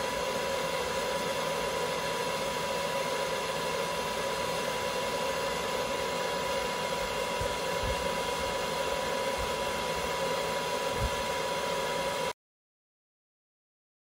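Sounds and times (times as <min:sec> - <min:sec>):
hair dryer running: 0:00.0 - 0:12.4.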